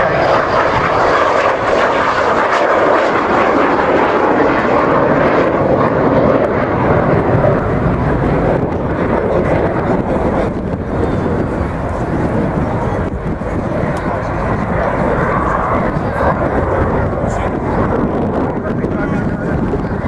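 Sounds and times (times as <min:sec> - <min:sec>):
jet aircraft engine roar: 0:00.0 - 0:20.0.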